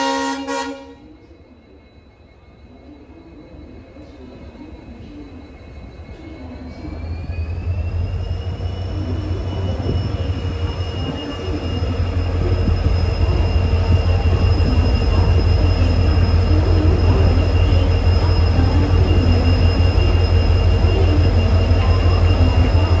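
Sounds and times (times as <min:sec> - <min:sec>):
locomotive engine hum: 0:04.1 - 0:23.0.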